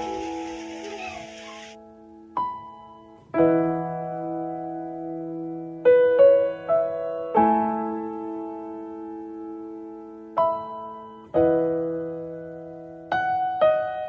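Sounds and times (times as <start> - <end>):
slow piano notes and chords: 0.0 - 14.0.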